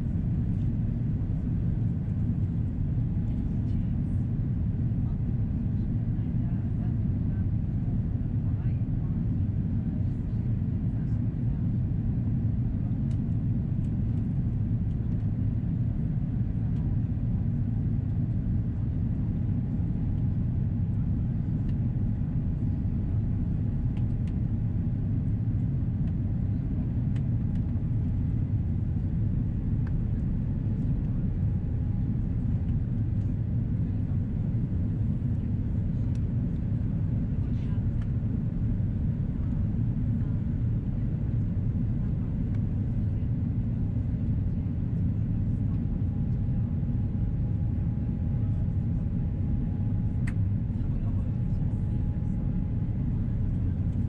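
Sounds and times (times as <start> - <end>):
jet engines and airflow rumble: 0.0 - 54.0.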